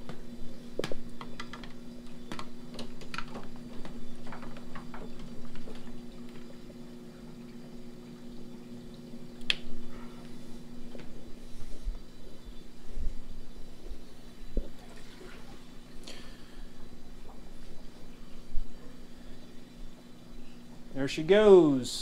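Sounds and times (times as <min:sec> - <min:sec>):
aquarium equipment humming: 0:00.0 - 0:22.0.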